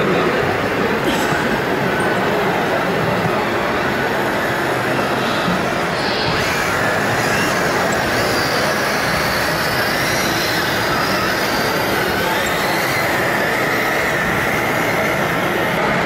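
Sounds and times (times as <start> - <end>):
toy trucks rumbling: 0.0 - 16.0
high wavering motor whine: 2.0 - 16.0.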